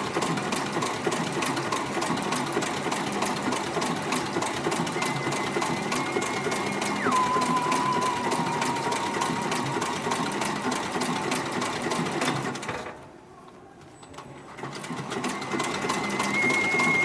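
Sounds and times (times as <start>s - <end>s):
sewing machine running: 0.0s - 12.7s, 14.6s - 17.0s.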